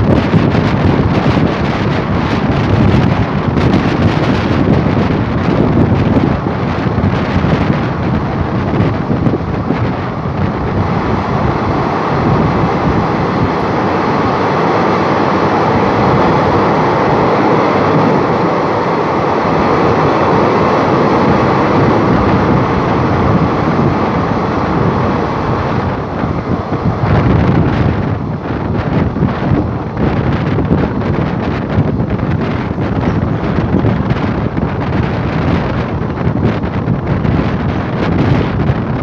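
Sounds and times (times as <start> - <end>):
train rumbling through tunnel: 0.0 - 39.0
wind buffeting microphone: 0.0 - 39.0.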